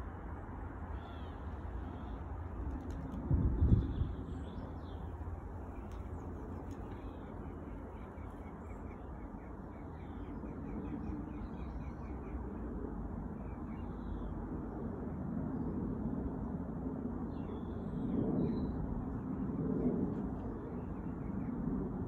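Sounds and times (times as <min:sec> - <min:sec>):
distant jet engine rumble: 0:00.0 - 0:22.0.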